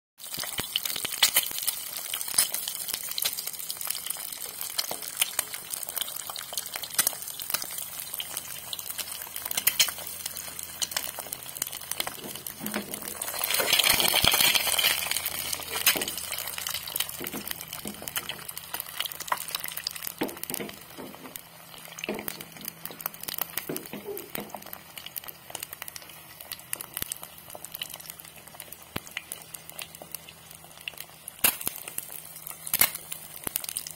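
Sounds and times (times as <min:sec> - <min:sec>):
egg sizzling in oil: 0:00.2 - 0:33.9
oil popping and crackling: 0:00.2 - 0:33.9.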